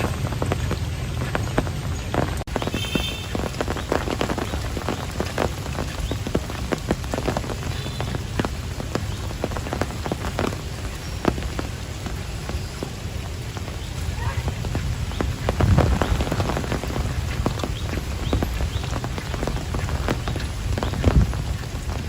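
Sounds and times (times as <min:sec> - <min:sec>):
raindrops pattering: 0:00.0 - 0:22.0
steady rainfall: 0:00.0 - 0:22.0.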